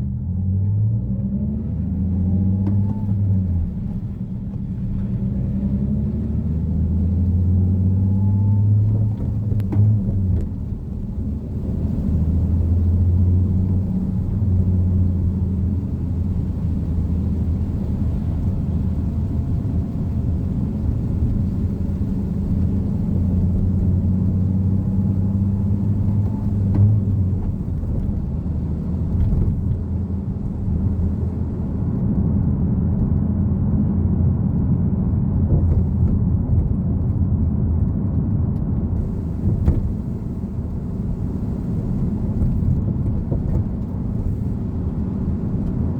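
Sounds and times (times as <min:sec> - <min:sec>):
car engine drone: 0:00.0 - 0:45.9.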